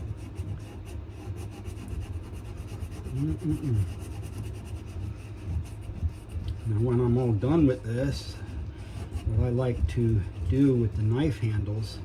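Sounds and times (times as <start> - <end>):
sandpaper rubbing wood: 0.0 - 11.7.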